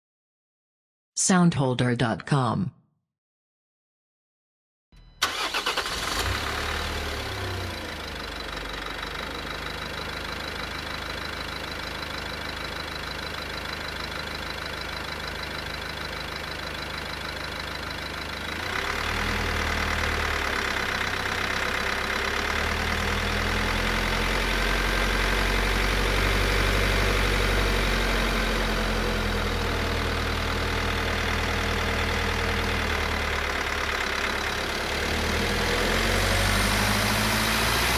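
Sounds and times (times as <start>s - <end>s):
diesel engine cranking and idling: 5.2s - 37.9s
van driving off through gears: 5.2s - 37.9s.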